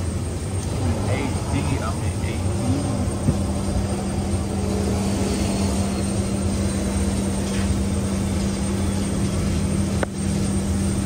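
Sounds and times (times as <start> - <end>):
airliner engine drone: 0.0 - 11.0.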